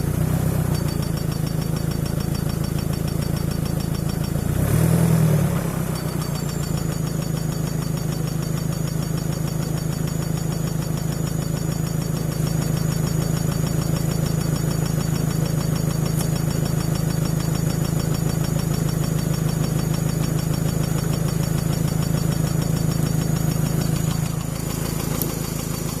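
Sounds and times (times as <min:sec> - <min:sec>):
car engine idling: 0:00.0 - 0:26.0
strange engine noise: 0:00.0 - 0:26.0.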